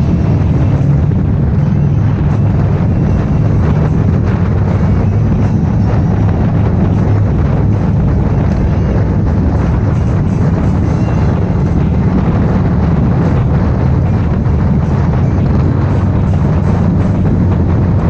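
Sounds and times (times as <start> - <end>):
motorcycle engine rumbling: 0.0 - 18.0
wind buffeting microphone: 0.0 - 18.0.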